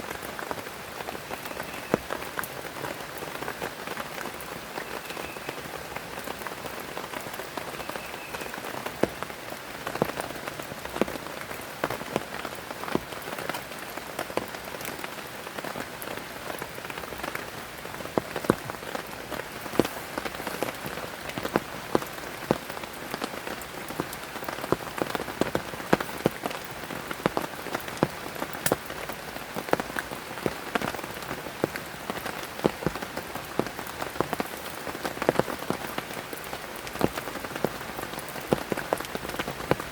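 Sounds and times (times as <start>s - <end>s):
heavy rain falling: 0.0s - 39.9s
raindrops hitting a surface: 0.0s - 39.9s.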